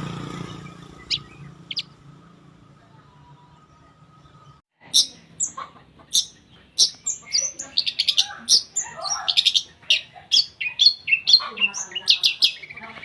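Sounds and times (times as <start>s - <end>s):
shrike singing: 0.3s - 2.0s, 3.0s - 13.0s.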